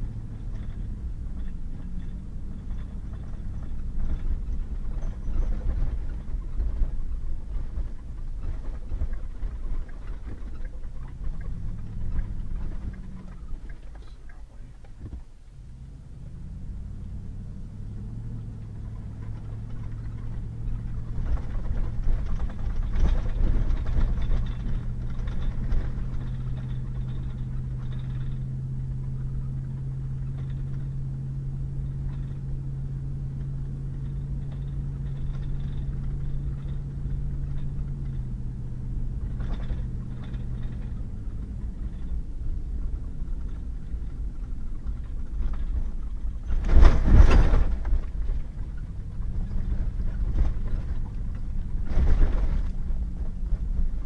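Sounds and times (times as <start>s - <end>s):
truck engine hum: 0.0s - 54.0s
tyres rumbling on gravel: 0.0s - 54.0s.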